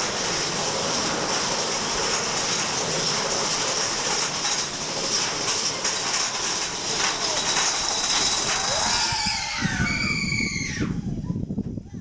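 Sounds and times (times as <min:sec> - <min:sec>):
roller coaster cars rattling on rails: 0:00.0 - 0:11.0.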